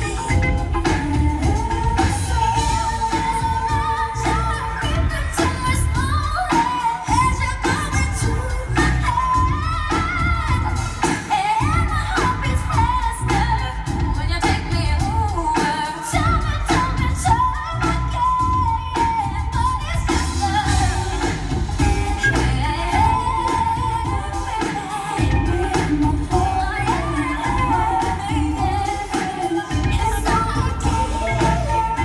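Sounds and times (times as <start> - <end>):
live pop band: 0.0 - 32.0
woman singing: 0.0 - 32.0.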